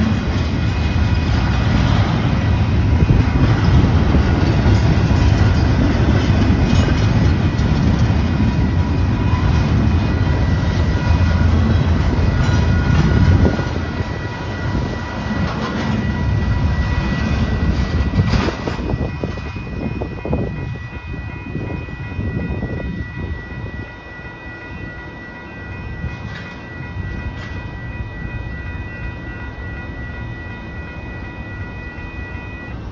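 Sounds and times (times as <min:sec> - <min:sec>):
freight train clattering past: 0:00.0 - 0:32.1
crossing warning bell ringing: 0:00.0 - 0:32.9.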